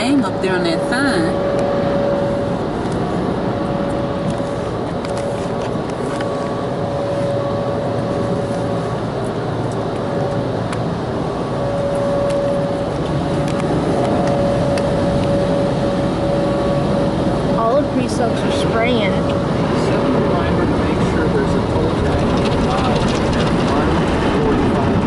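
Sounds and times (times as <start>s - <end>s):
car wash machinery rumble and hiss: 0.0s - 25.0s
steady machinery whine: 0.0s - 25.0s.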